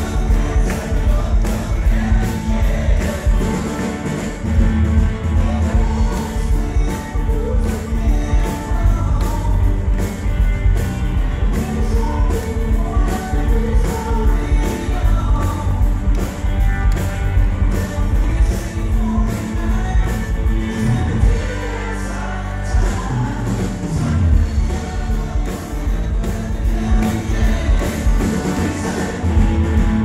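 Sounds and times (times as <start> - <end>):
steady drum beat: 0.0 - 21.7, 22.7 - 30.0
lead vocal singing: 0.0 - 30.0
live rock band playing: 0.0 - 30.0.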